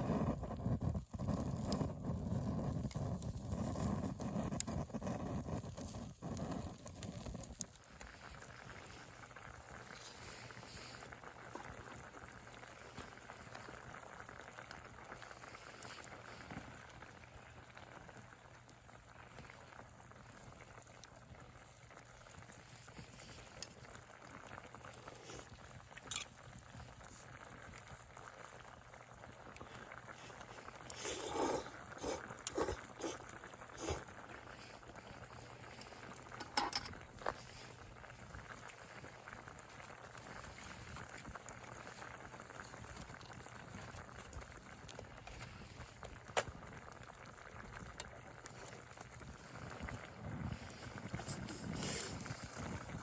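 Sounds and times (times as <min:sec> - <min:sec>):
pot of liquid boiling: 0:00.0 - 0:53.0.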